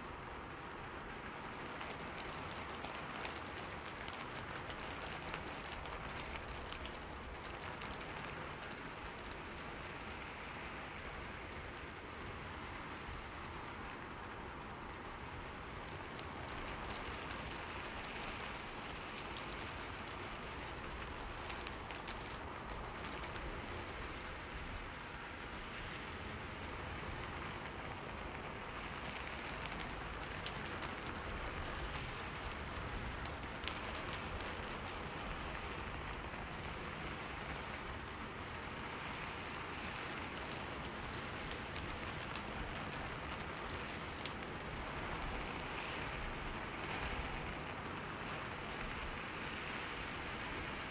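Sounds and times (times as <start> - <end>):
rain falling on leaves: 0.0 - 50.9.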